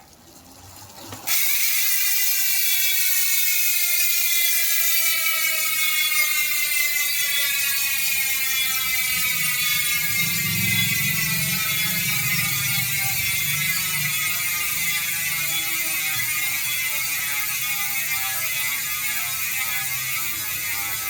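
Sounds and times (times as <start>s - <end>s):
bicycle hub ratchet clicking: 0.3s - 21.0s.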